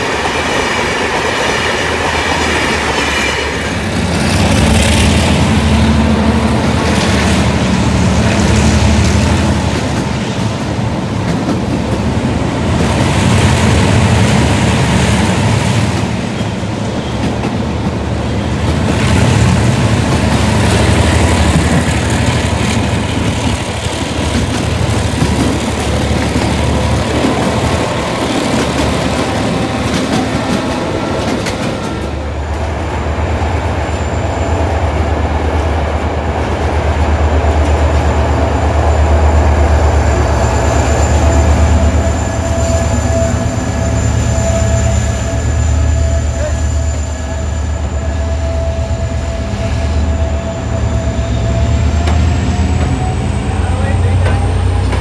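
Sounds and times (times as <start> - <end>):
diesel locomotive engine drone: 0.0 - 55.0
train wheels rattling and clattering: 0.0 - 55.0.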